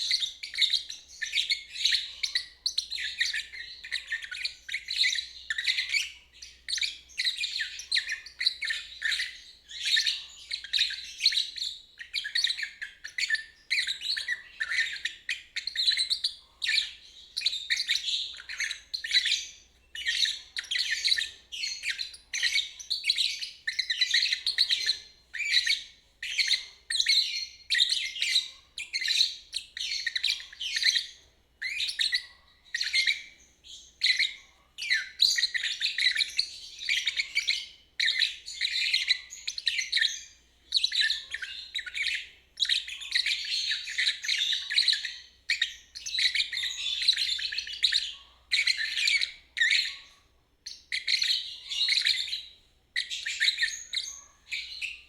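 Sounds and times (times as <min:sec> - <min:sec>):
lovebird chattering: 0:00.1 - 0:33.4, 0:34.0 - 0:55.0.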